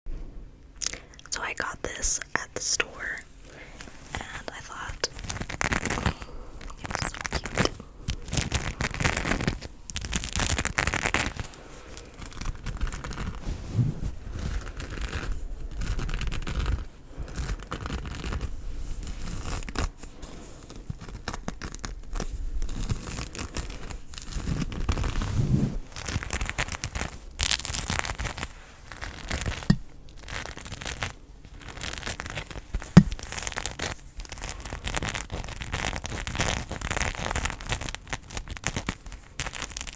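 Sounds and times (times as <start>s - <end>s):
object crackling and crinkling: 3.2s - 39.9s.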